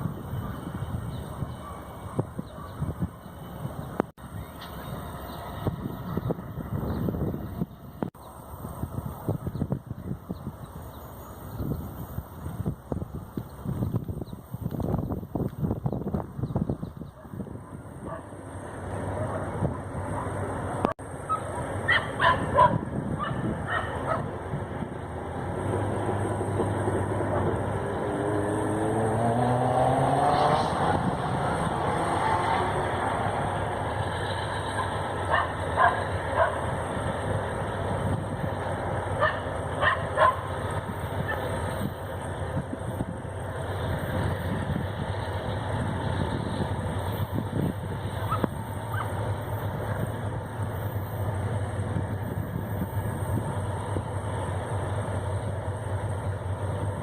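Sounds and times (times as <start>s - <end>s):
diesel locomotive rumble: 0.0s - 57.0s
locomotive whine: 0.0s - 57.0s.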